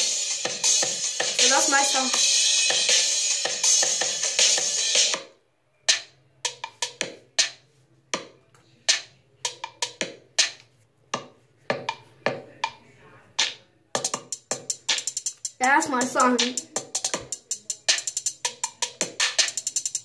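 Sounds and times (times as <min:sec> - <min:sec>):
drum machine beat: 0:00.0 - 0:12.8, 0:13.4 - 0:20.0.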